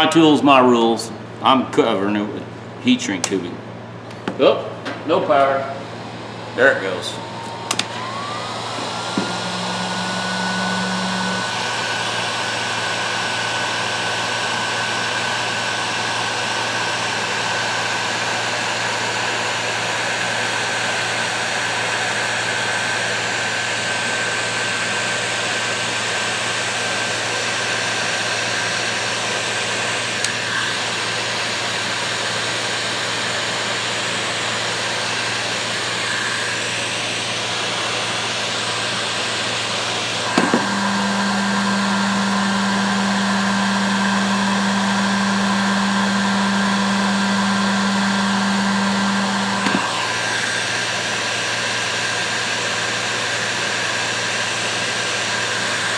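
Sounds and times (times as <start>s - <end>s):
heat gun blowing: 6.0s - 55.9s.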